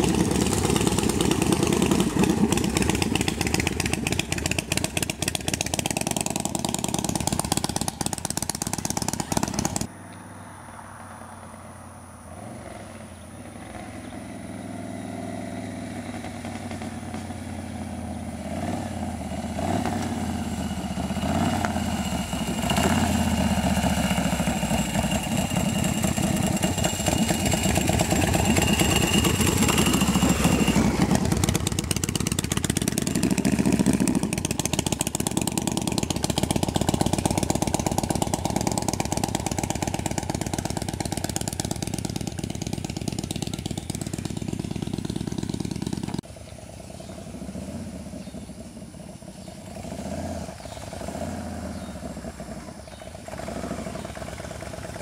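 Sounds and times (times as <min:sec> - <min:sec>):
motorcycle engine running: 0:00.0 - 0:09.9, 0:13.1 - 0:55.0.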